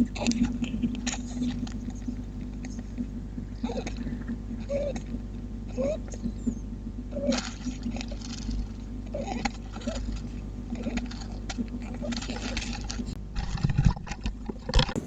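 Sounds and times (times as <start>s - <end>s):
squirrel snoring: 0.0s - 13.2s
steady low hum: 0.0s - 15.0s.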